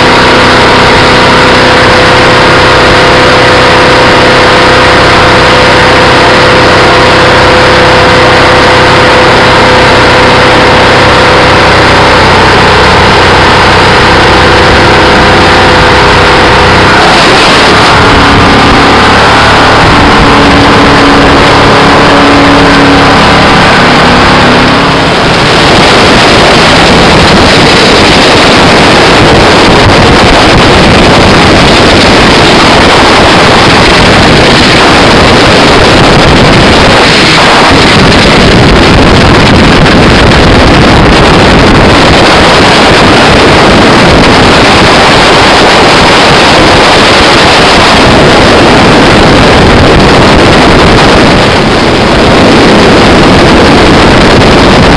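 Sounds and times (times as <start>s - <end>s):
boat engine hum: 0.0s - 54.9s
wind rushing on microphone: 0.0s - 54.9s.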